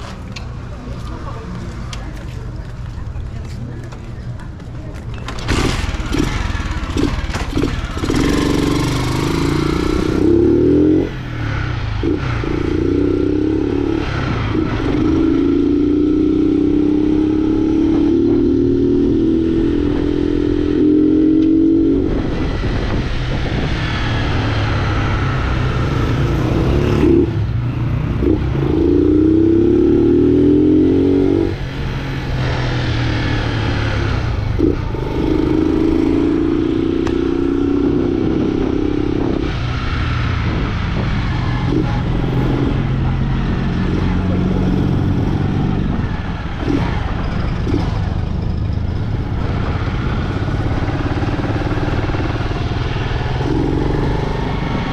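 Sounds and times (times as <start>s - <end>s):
motorcycle engine revving: 5.3s - 54.9s.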